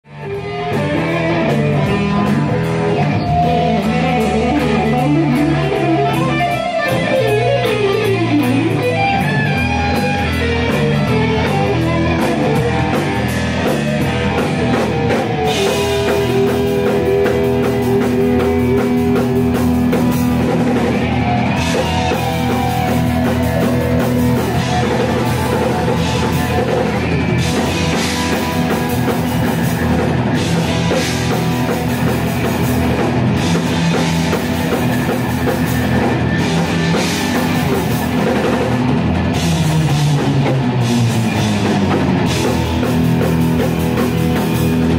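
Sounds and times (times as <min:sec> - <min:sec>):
electric bass: 0:00.0 - 0:44.9
electric guitars: 0:00.0 - 0:44.9
drum kit: 0:00.1 - 0:44.9.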